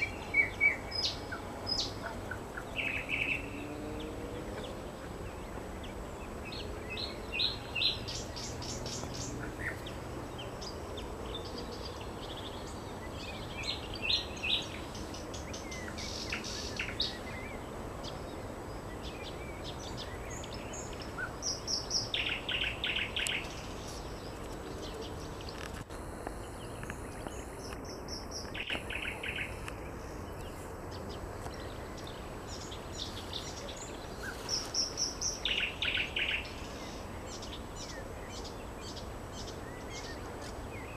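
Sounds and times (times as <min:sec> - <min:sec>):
nightingale singing: 0:00.0 - 0:40.9
steady background hiss: 0:00.0 - 0:40.9.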